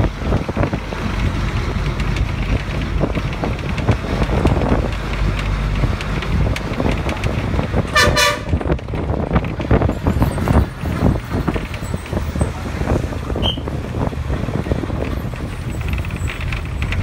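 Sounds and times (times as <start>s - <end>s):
knocks and rattles: 0.0s - 17.0s
vehicle ride rumble: 0.0s - 17.0s
wind buffeting microphone: 0.0s - 17.0s.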